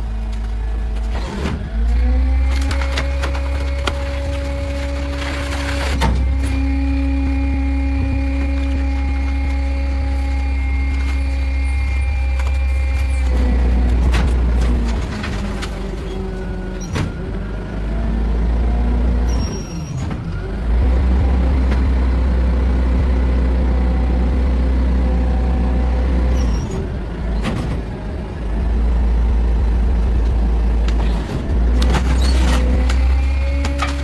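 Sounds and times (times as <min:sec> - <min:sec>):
garbage truck engine rumble: 0:00.0 - 0:34.0.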